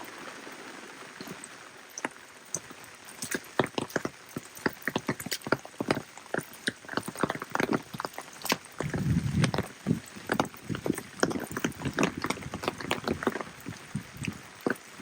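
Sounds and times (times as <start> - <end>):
large raindrops tapping: 0.0 - 15.0
soft rain hiss: 0.0 - 15.0.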